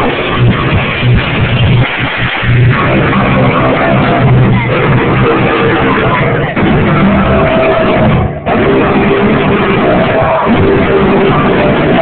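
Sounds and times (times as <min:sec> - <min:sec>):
distorted electric guitars: 0:00.0 - 0:12.0
drums: 0:00.0 - 0:12.0.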